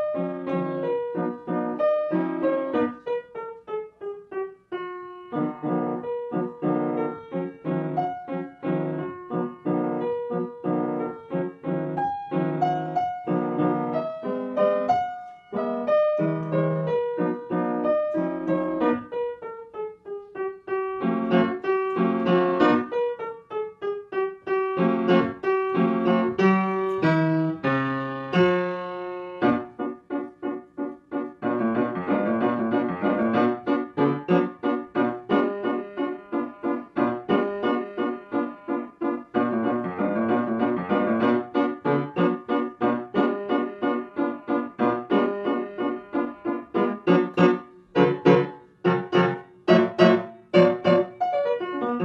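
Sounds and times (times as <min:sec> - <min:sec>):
piano music: 0:00.0 - 0:52.0.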